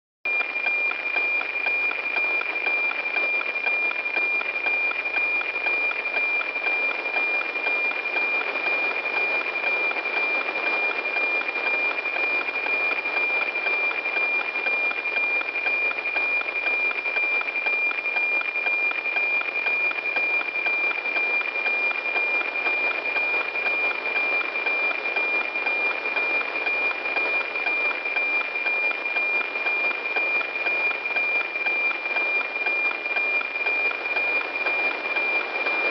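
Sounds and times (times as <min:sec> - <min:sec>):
steady high radio tone: 0:00.3 - 0:35.9.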